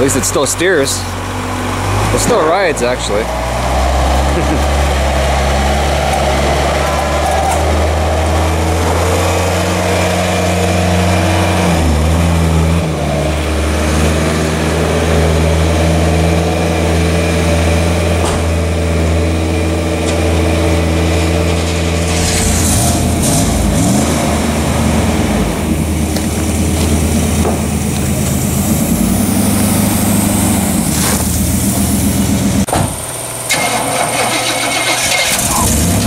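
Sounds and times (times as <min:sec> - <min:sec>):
truck engine running: 0:00.0 - 0:36.0.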